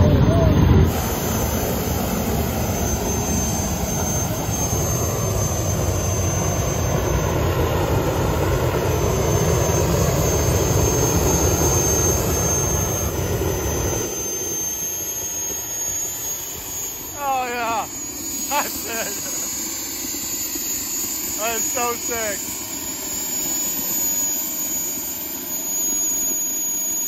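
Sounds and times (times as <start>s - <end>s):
high turbine whine: 0.0s - 27.0s
jet engine roar: 0.0s - 27.0s.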